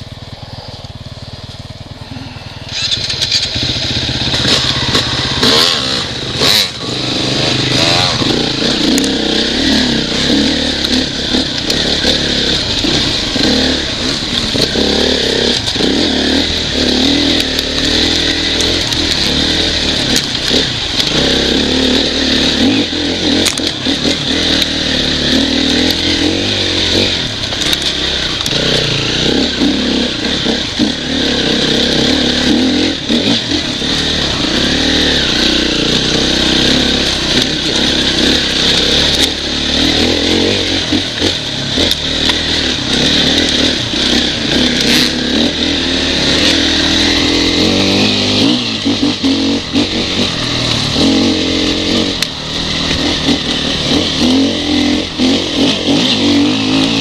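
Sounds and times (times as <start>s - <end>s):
off-road motorcycle engine: 0.0s - 57.0s.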